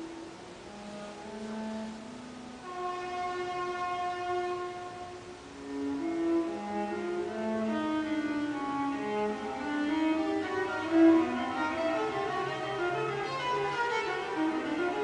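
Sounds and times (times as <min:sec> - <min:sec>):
viola and orchestra playing: 0:00.0 - 0:15.0.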